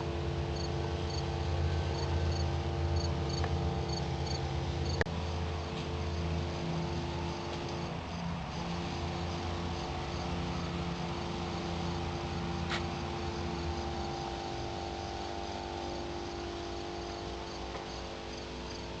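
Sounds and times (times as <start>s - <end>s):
machine humming with hiss: 0.0s - 19.0s.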